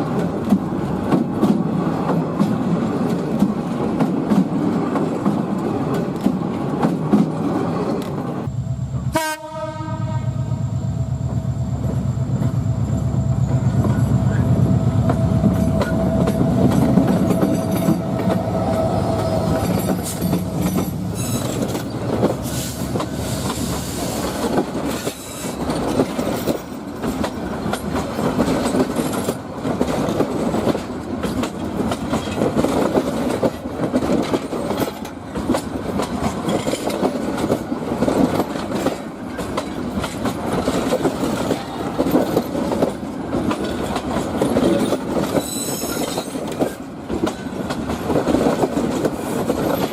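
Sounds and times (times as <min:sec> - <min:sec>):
train wheels clattering over rail joints: 0:00.0 - 0:08.2, 0:15.0 - 0:49.9
train engine hum: 0:00.0 - 0:49.9.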